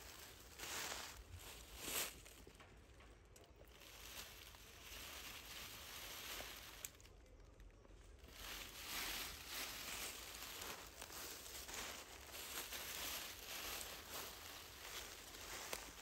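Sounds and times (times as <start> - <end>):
dry leaves rustling and crunching: 0.0 - 16.0.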